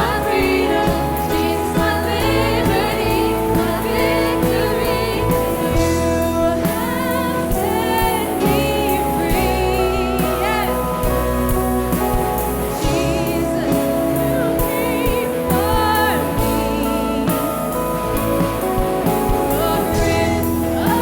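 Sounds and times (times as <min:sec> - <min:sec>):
people singing: 0:00.0 - 0:21.0
worship band playing: 0:00.0 - 0:21.0.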